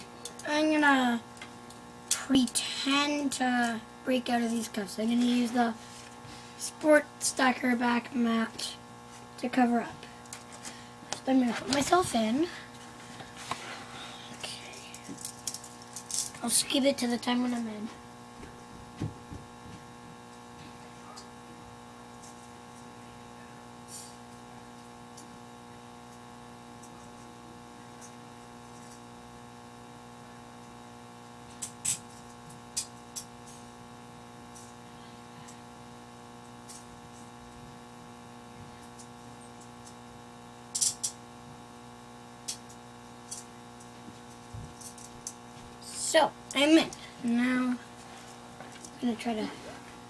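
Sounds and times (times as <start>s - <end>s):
electrical hum: 0.0s - 50.0s.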